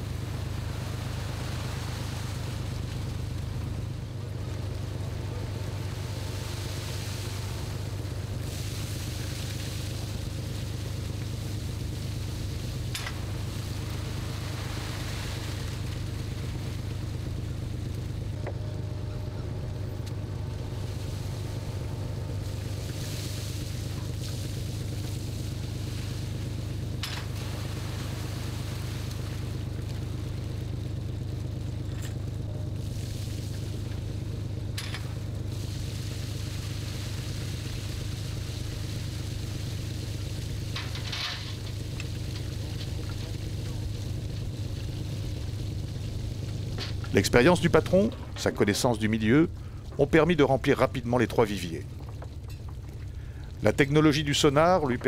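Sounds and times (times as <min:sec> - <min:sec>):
boat engine droning: 0:00.0 - 0:55.0
constant hiss: 0:00.0 - 0:55.0.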